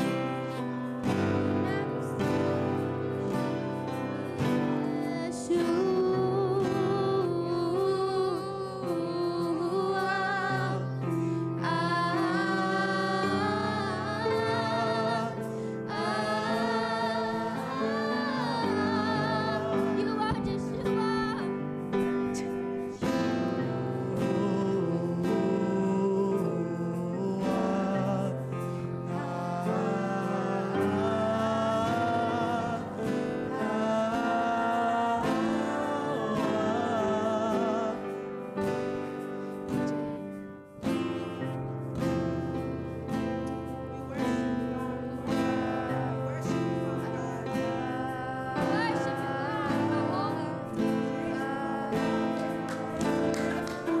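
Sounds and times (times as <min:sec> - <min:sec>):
held accompaniment chords: 0:00.0 - 0:54.0
voices singing: 0:00.0 - 0:54.0.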